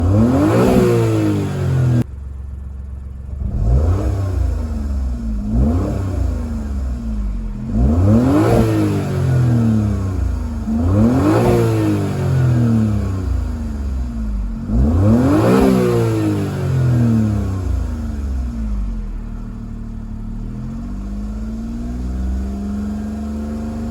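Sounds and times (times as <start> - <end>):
car engine revving in blips: 0.0 - 2.1, 3.1 - 23.9.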